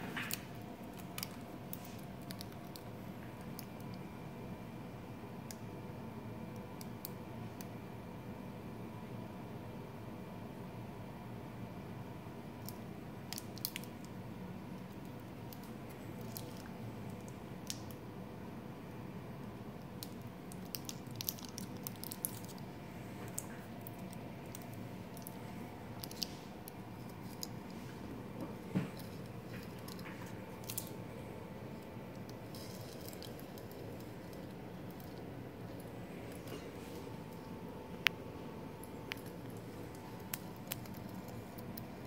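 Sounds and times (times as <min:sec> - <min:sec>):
faint whine: 0:00.0 - 0:42.0.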